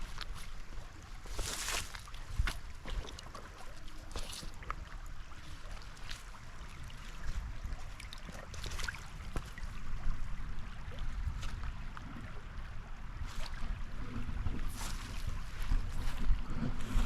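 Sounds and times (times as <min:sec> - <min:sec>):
river water trickling and splashing: 0:00.0 - 0:17.0
wind rumble on microphone: 0:00.0 - 0:17.0.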